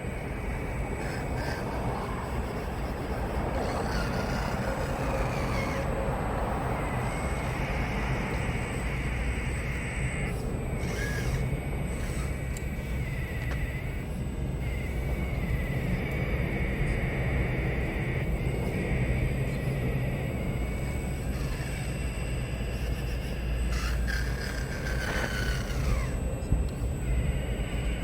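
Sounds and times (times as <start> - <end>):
toy excavator motor whine: 0.0 - 28.0.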